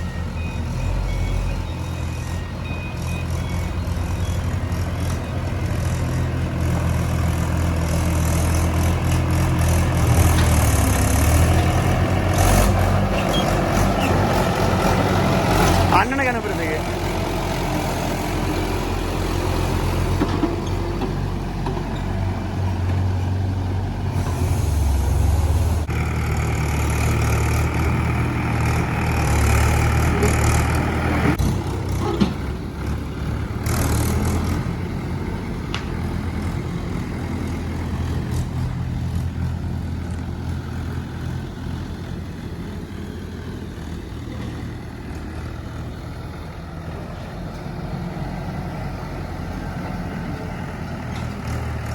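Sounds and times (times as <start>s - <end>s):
diesel engine working: 0.0s - 51.9s.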